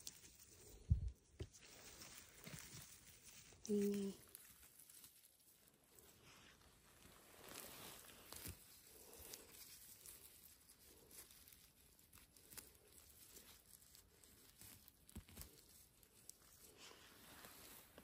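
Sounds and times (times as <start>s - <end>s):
faint rustling in undergrowth: 0.0s - 18.0s.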